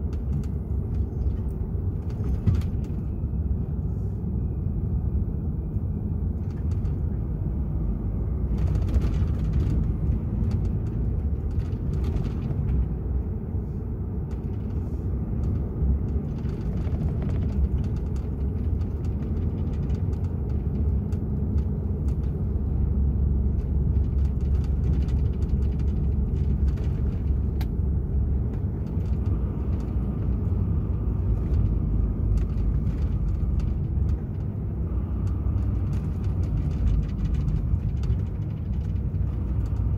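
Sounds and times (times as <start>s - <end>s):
truck engine rumble: 0.0s - 39.9s.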